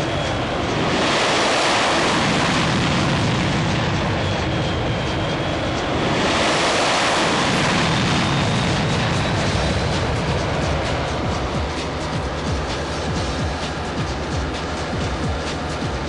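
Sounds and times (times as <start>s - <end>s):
faint high whine: 0.0s - 16.0s
jet engines flying past: 0.0s - 16.0s.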